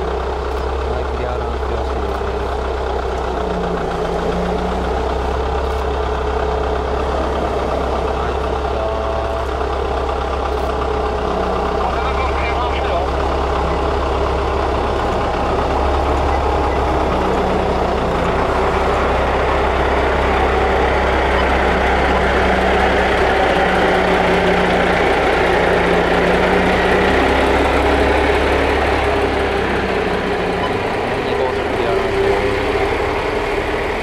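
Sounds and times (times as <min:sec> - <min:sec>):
diesel engines droning: 0:00.0 - 0:34.0.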